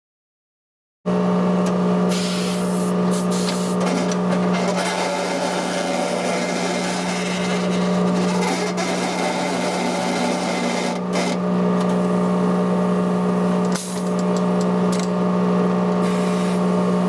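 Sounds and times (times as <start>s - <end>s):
low machine hum: 1.1s - 17.0s.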